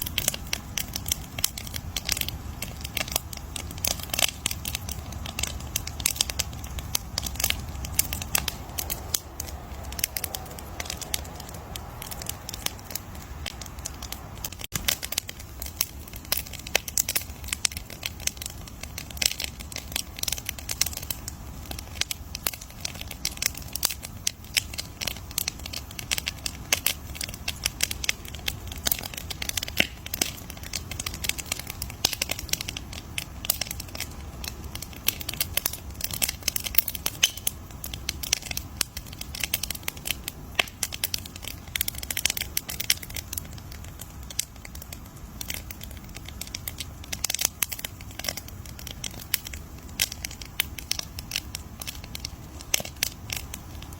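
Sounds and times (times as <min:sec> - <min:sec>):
campfire crackling: 0:00.0 - 0:53.9
low rumble of burning fire: 0:00.0 - 0:53.9.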